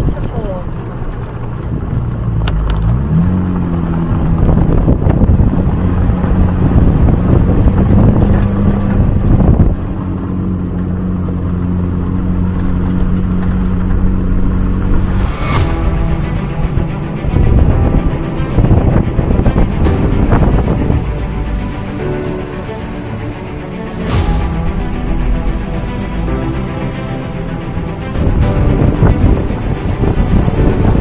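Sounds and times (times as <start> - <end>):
off-road vehicle engine: 0.0 - 31.0
rough tyre noise: 0.0 - 31.0.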